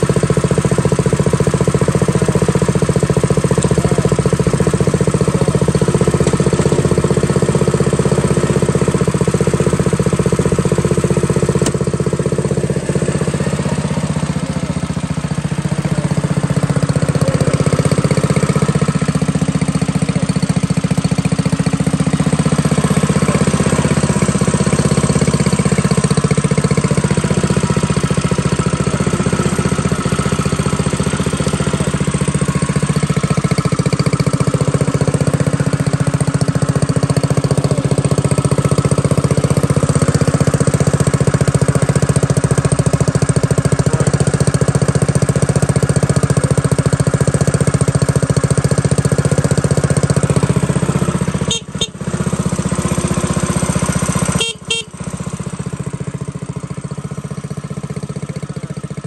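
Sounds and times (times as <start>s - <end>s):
small engine idling: 0.0s - 59.0s.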